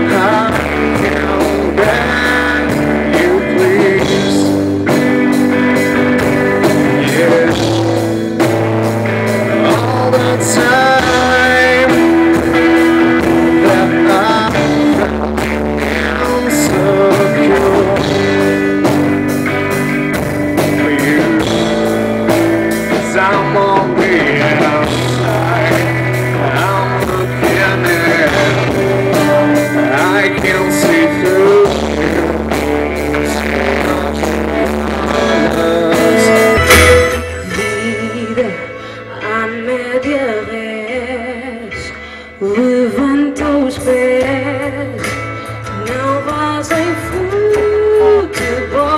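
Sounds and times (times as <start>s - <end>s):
electric bass: 0.0s - 48.9s
electric guitar: 0.0s - 48.9s
live rock band playing: 0.0s - 48.9s.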